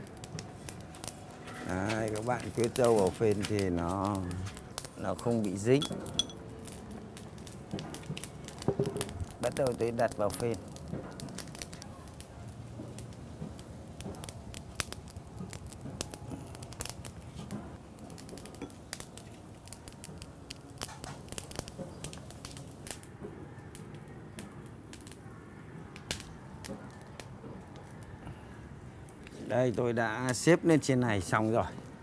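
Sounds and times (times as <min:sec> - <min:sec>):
light crackling on charcoal grill: 0:00.0 - 0:32.0.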